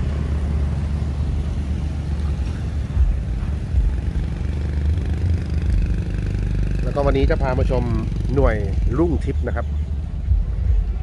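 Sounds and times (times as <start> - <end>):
motorcycles riding past: 0.0 - 10.8.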